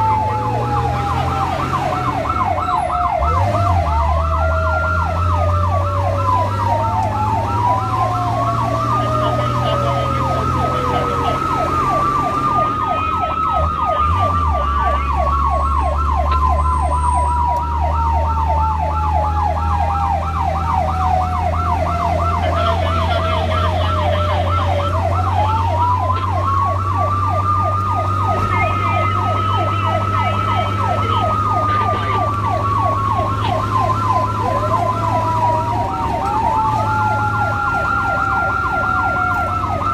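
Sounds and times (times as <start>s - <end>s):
siren wail: 0.0s - 39.9s
siren yelp: 0.0s - 39.9s
vehicle engine drone: 0.0s - 39.9s.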